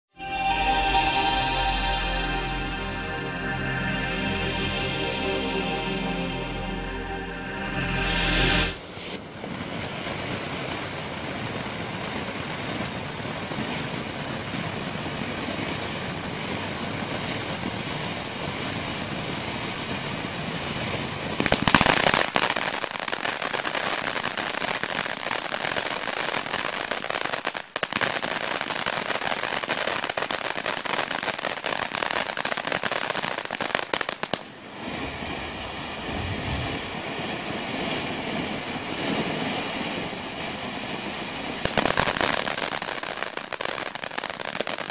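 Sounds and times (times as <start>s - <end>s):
firework crackling: 8.7s - 44.9s
firework fountain hissing: 8.7s - 44.9s.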